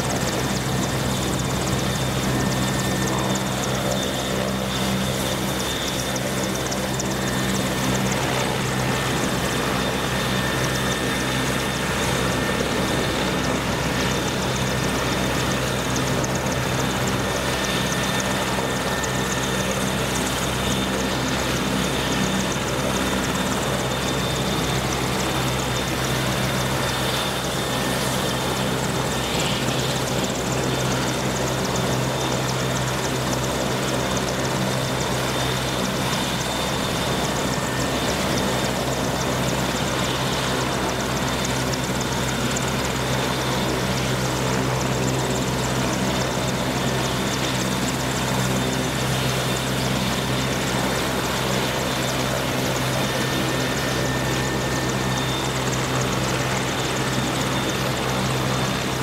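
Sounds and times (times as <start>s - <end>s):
helicopter rotor and turbine roar: 0.0s - 59.0s.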